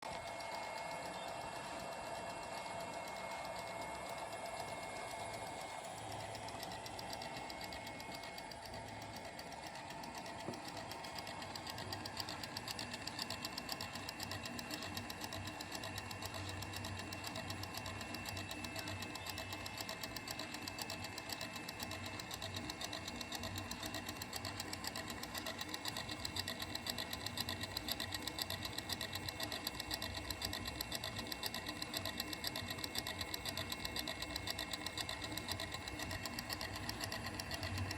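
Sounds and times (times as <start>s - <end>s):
lathe motor whining and clattering: 0.0s - 37.9s.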